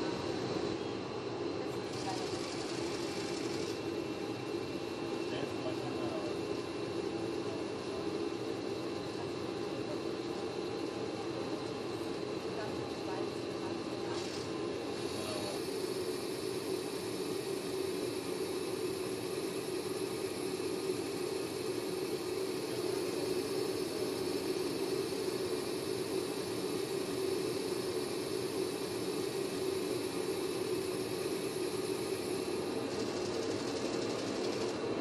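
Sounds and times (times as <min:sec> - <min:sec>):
machinery hum and hiss: 0:00.0 - 0:35.0.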